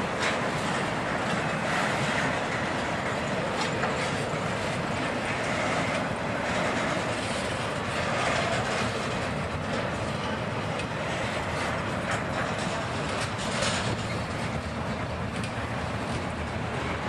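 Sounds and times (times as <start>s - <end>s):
steel wheels rumbling on rail: 0.0s - 17.0s
train clicks: 0.0s - 17.0s.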